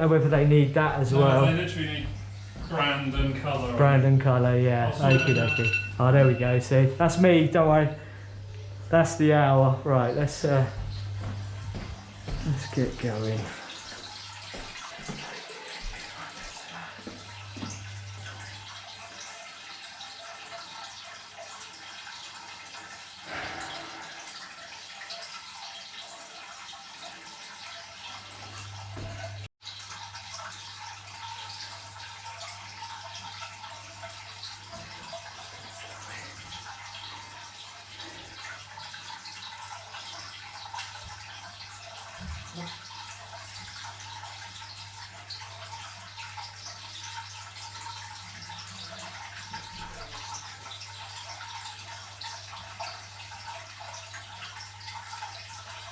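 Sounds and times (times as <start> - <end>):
water rushing from drain valve: 0.0 - 55.9.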